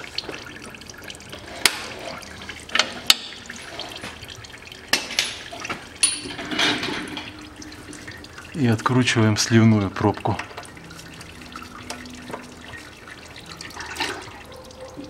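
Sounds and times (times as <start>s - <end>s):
fluid trickling into container: 0.0s - 15.0s.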